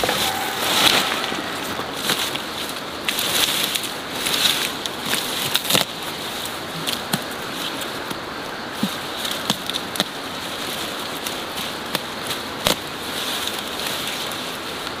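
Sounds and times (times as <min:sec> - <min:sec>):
leaves rustling: 0:00.0 - 0:15.0.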